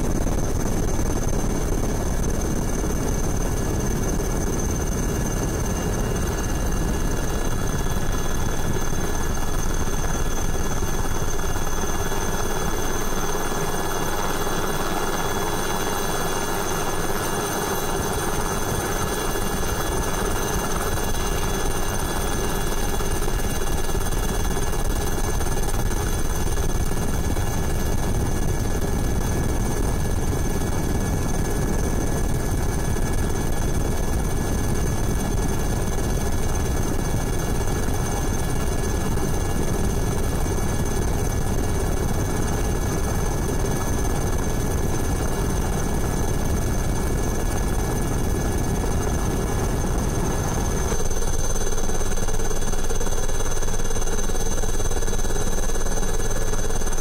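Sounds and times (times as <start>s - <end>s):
helicopter rotor and turbine drone: 0.0s - 57.0s.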